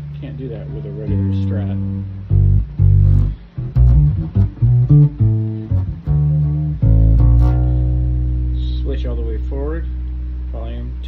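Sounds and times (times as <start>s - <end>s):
electric bass plucked notes: 0.0s - 11.0s.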